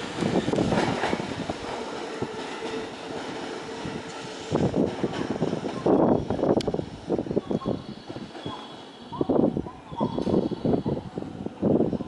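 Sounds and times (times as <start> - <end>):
electric train running slowly: 0.0 - 12.0
wind buffeting microphone: 0.0 - 12.0.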